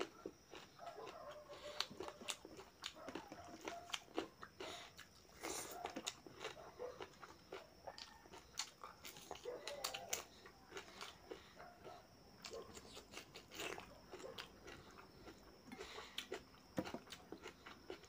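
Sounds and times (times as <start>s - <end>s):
wet chewing and lip smacking: 0.0s - 18.0s.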